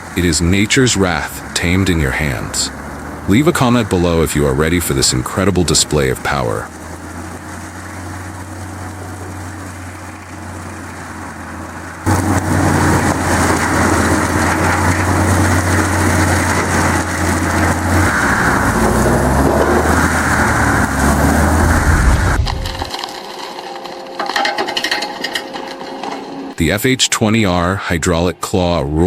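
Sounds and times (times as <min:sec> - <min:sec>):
stump grinder engine running: 0:00.0 - 0:26.3
rough grinding noise: 0:00.0 - 0:26.7.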